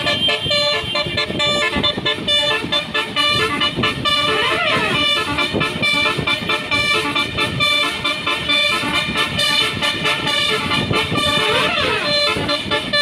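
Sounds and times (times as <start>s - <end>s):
bus musical horn tune: 0.0s - 13.0s.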